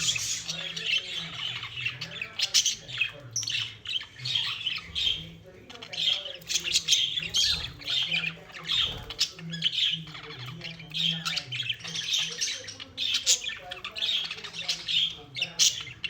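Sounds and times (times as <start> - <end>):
budgerigars squawking and chattering: 0.0 - 16.0.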